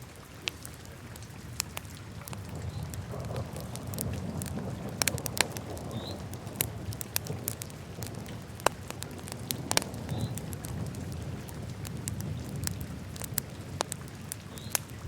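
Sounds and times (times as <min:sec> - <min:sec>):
low rumble of flames: 0:00.1 - 0:15.0
wood fire crackling and popping: 0:00.4 - 0:15.0.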